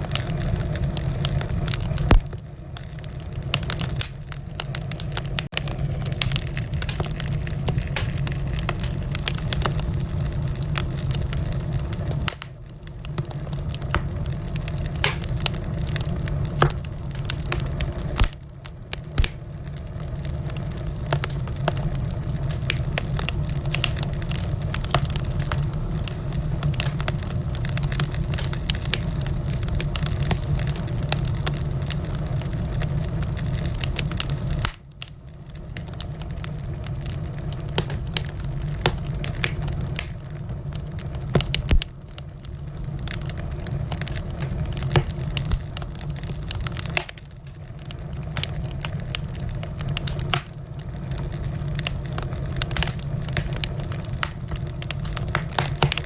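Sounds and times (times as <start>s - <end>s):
wood fire crackling in fireplace: 0.0s - 56.0s.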